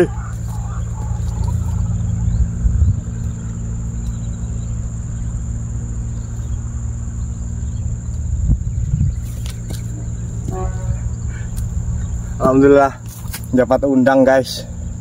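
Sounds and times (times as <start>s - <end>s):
low thumps: 0.0s - 13.5s
high-pitched insect drone: 0.0s - 15.0s
low steady hum: 0.0s - 15.0s.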